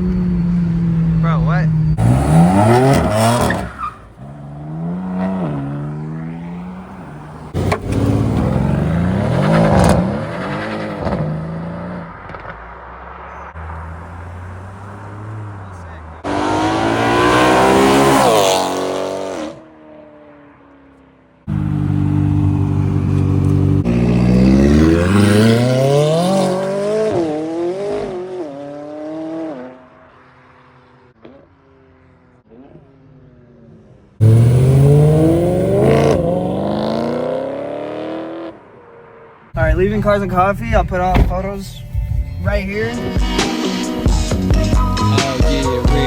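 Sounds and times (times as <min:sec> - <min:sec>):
car engines revving: 0:00.0 - 0:46.0.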